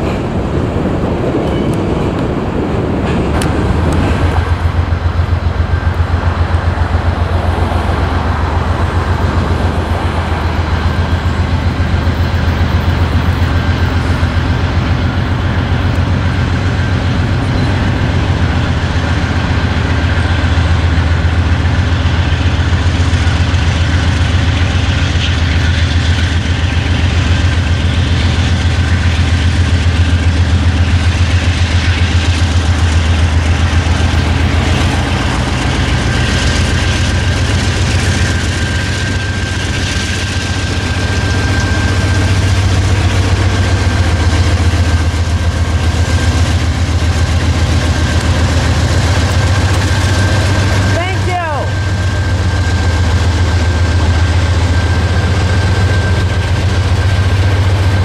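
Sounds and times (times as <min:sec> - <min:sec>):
diesel locomotives rumbling: 0:00.0 - 0:58.0.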